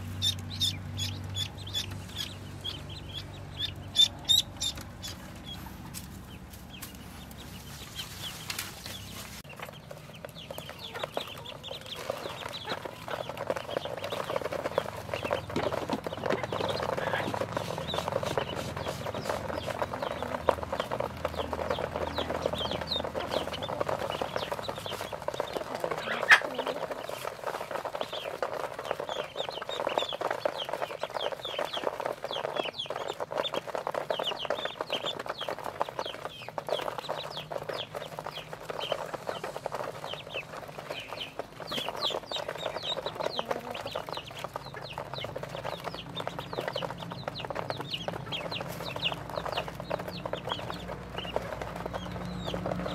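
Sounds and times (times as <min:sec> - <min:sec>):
bills pecking at feed tray: 0:00.0 - 0:52.9
ducklings peeping: 0:00.0 - 0:52.9.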